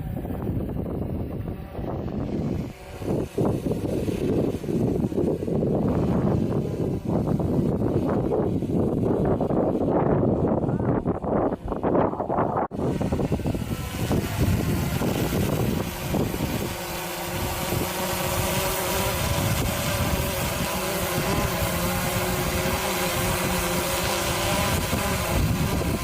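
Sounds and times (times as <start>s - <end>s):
drone propellers buzzing: 0.0s - 26.0s
wind buffeting microphone: 0.0s - 26.0s.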